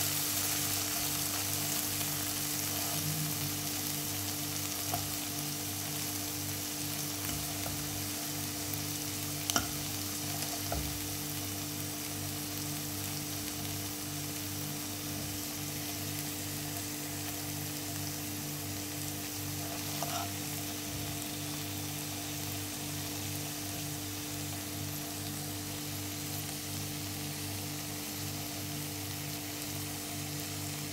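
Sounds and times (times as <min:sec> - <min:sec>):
food sizzling in a frying pan: 0:00.0 - 0:30.9.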